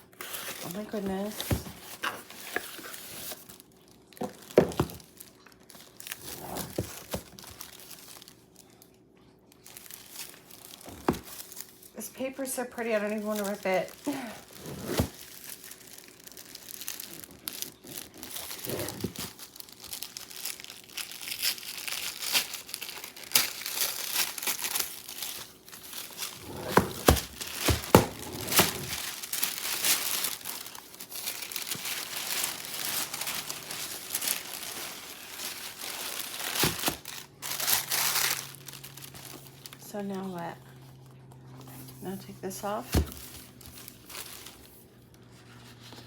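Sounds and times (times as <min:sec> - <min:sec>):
wrapping paper crinkling: 0:00.0 - 0:46.0.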